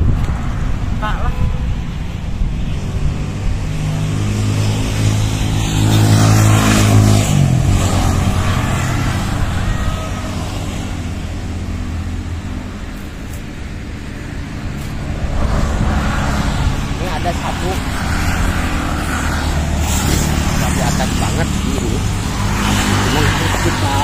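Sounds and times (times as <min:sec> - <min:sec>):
traffic hum: 0:00.0 - 0:24.0
vehicle engine passing close: 0:00.0 - 0:24.0.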